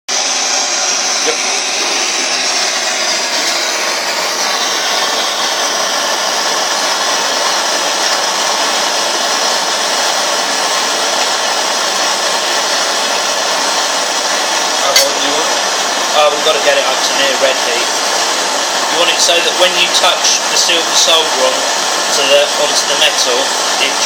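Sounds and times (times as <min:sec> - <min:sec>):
blowtorch flame hissing: 0:00.1 - 0:24.0.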